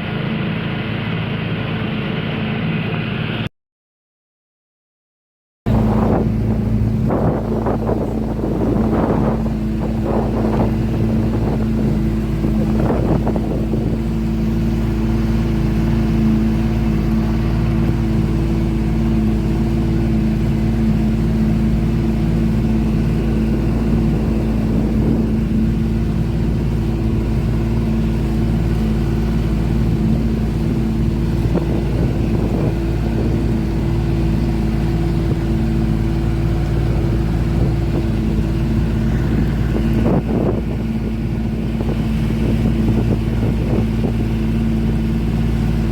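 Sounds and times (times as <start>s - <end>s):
motorboat engine running: 0.0s - 3.5s, 5.7s - 45.9s.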